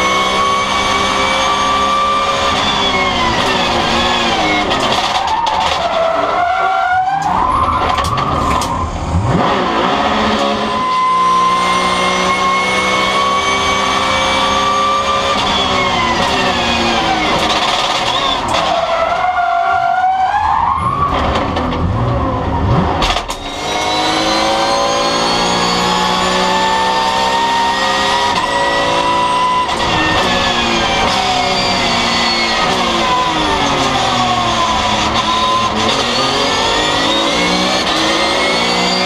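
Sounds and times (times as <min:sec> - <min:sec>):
race car engine revving: 0:00.0 - 0:06.6, 0:07.2 - 0:19.4, 0:21.0 - 0:39.0.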